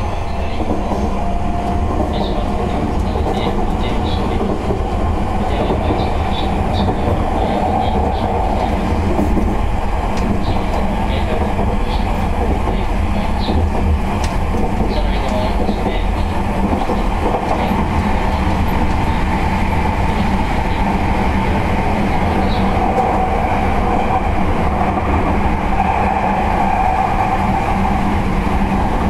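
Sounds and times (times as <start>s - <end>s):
rumble of wheels on rail: 0.0s - 29.0s.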